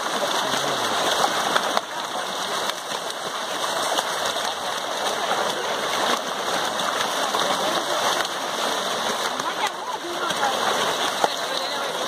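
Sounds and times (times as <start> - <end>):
fish thrashing and splashing: 0.0 - 12.0.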